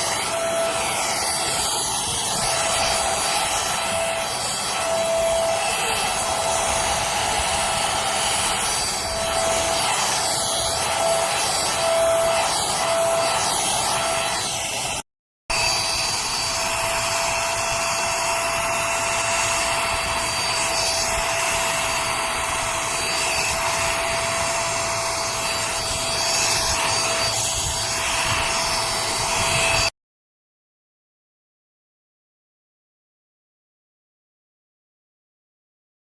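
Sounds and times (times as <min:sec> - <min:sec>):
handheld vacuum motor whine: 0:00.0 - 0:29.9.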